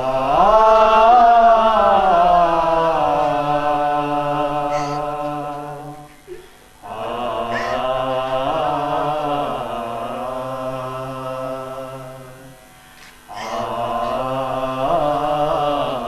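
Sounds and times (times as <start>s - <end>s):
person singing long held notes: 0.0s - 16.0s.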